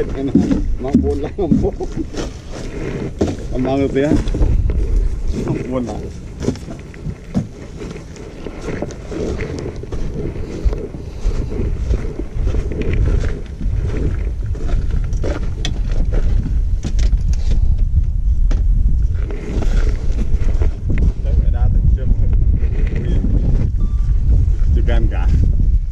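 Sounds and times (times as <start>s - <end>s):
gear clicks and rustles: 0.0s - 25.9s
wind buffeting microphone: 0.0s - 25.9s.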